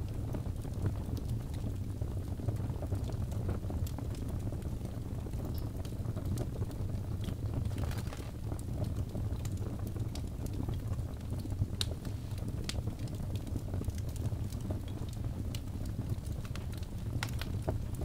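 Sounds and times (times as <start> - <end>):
log fire crackling: 0.0 - 18.0
low rumble of flames: 0.0 - 18.0.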